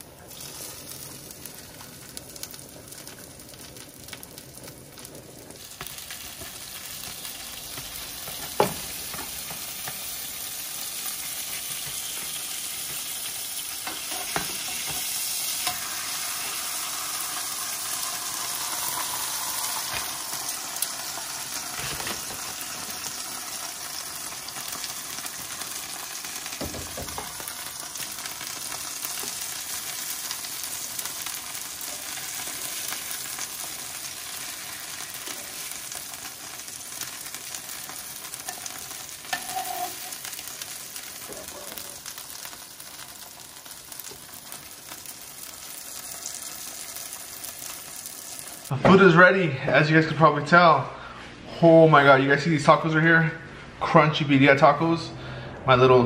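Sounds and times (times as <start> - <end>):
tortillas sizzling in fat: 0.0 - 48.7.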